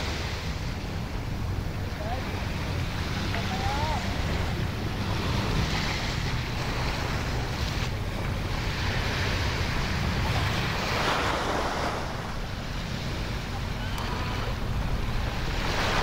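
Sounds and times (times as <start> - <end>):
small waves washing onto beach: 0.0 - 16.0
wind rumbling on microphone: 0.0 - 16.0.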